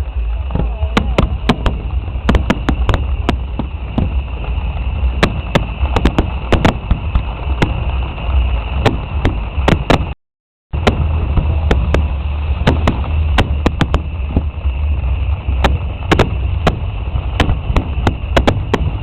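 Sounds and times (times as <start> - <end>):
fireworks bangs and pops: 0.0 - 19.0
low rumble: 0.0 - 19.0.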